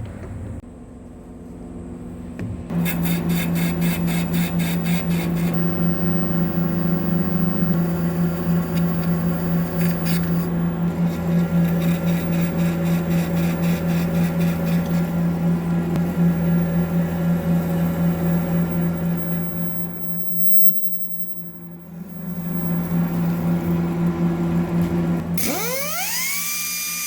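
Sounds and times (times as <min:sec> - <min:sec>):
metal lathe humming: 0:02.7 - 0:27.0.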